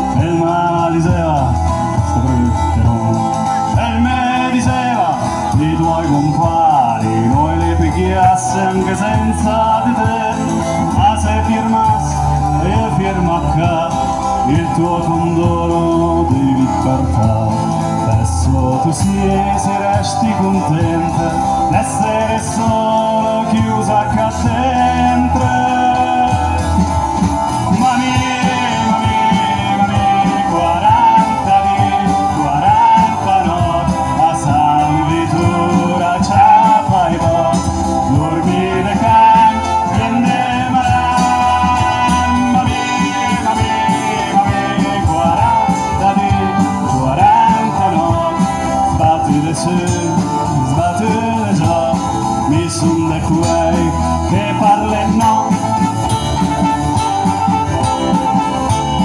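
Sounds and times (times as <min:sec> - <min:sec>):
drums: 0:00.0 - 0:59.0
electric bass: 0:00.0 - 0:59.0
strummed acoustic guitar: 0:00.0 - 0:59.0
trumpet melody: 0:00.0 - 0:59.0.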